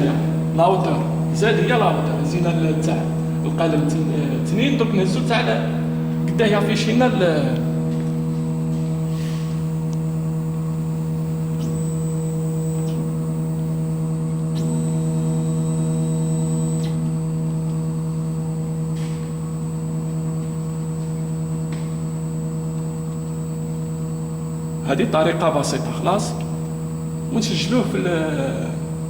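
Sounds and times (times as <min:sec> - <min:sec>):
faint high whine: 0:00.0 - 0:29.0
milling machine humming: 0:00.0 - 0:29.0.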